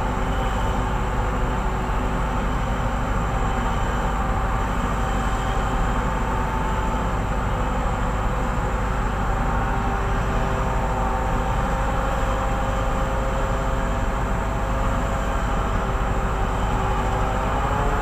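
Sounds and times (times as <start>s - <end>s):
diesel machinery drone: 0.0s - 18.0s
steady whining tones: 0.0s - 18.0s.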